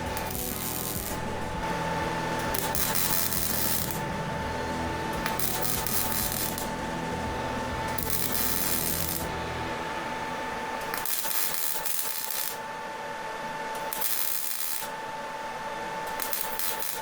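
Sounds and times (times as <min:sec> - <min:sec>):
steady machine whine: 0:00.0 - 0:17.0.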